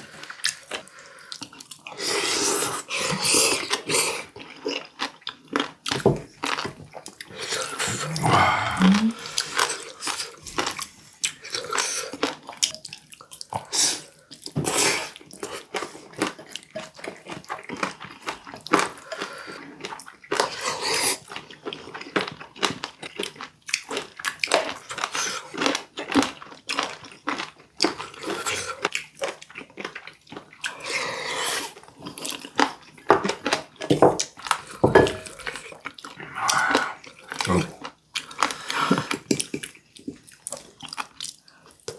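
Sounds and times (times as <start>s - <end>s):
wet chewing and crunching: 0.0s - 41.9s.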